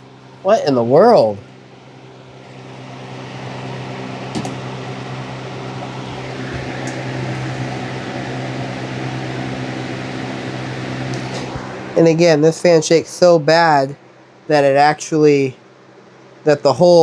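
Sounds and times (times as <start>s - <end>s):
box fan motor hum: 0.0s - 17.0s.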